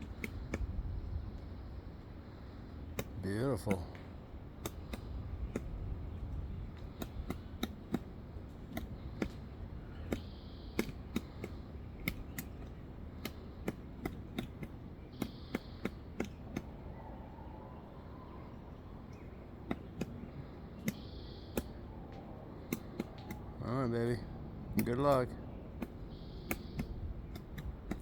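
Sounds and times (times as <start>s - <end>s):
woodpecker pecking wood: 0.0s - 28.0s.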